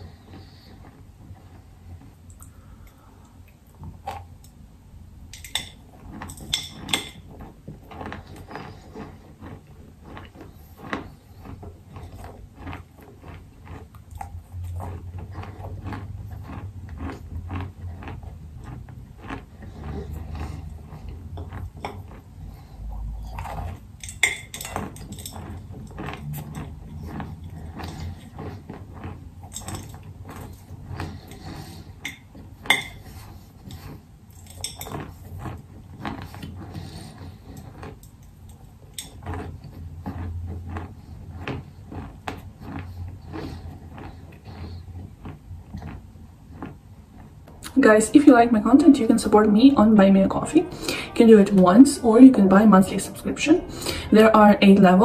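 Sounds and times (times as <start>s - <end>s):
chewing and crunching chalk: 0.0s - 4.6s, 5.4s - 48.0s.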